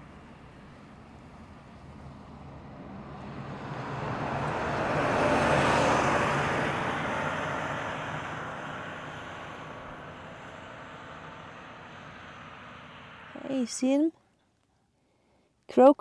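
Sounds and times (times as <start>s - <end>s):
bus driving past: 0.0s - 14.1s.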